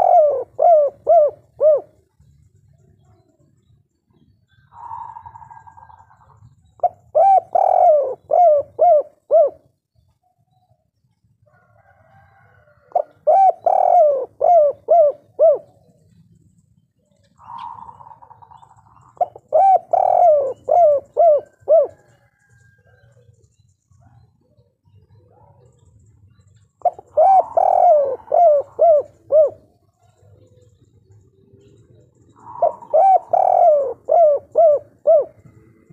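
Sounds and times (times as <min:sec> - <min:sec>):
dove cooing: 0:00.0 - 0:10.1, 0:11.5 - 0:35.9.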